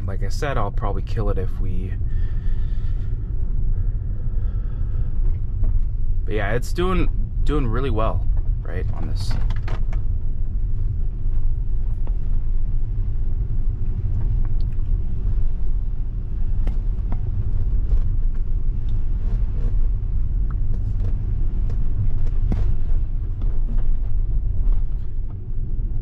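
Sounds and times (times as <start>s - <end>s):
car road rumble on wet road: 0.0s - 26.0s.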